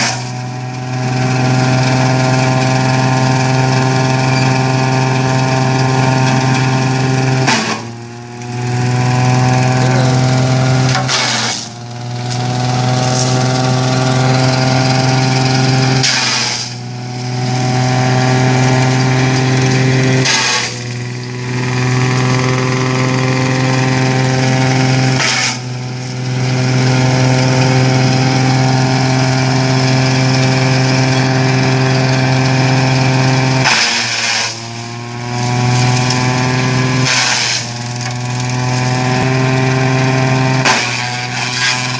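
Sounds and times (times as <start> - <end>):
bursts of shredding noise: 0.0 - 41.9
leaf shredder running: 0.0 - 41.9.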